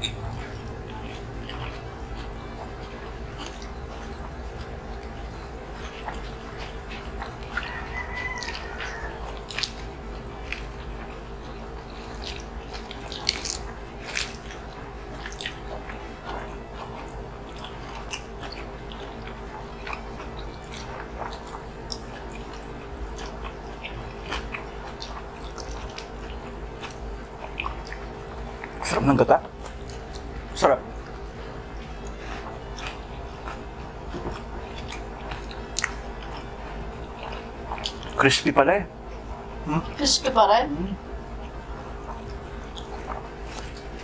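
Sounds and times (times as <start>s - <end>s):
biting and chewing food: 0.0s - 40.4s, 41.0s - 44.0s.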